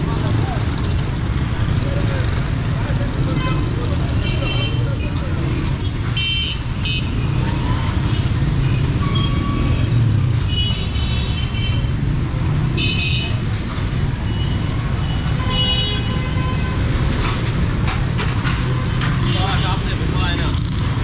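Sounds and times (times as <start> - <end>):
engines rumbling in traffic: 0.0 - 21.0.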